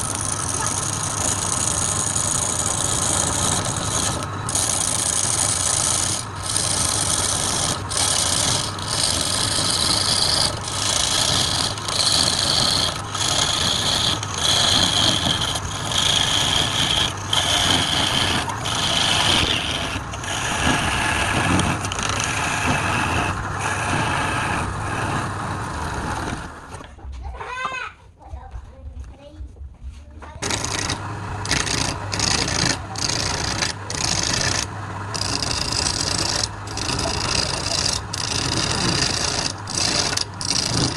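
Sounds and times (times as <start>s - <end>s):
lathe motor hum: 0.0s - 26.9s, 30.4s - 40.9s
lathe tool scraping wood: 0.0s - 26.9s, 30.4s - 40.9s.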